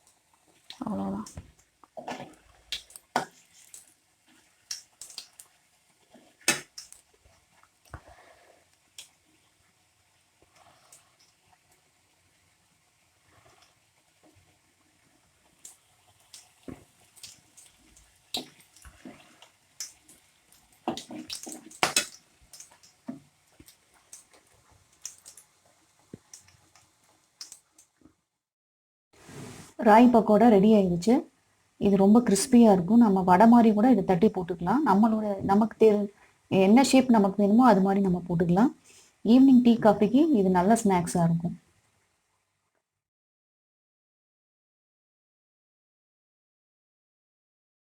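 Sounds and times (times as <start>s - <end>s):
frying crackles: 0.0s - 28.1s, 29.2s - 42.6s.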